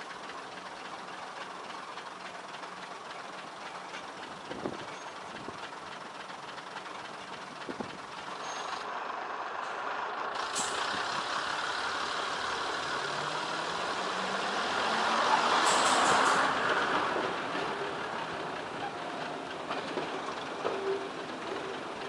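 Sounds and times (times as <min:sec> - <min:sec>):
train rumbling past: 0:01.0 - 0:22.0.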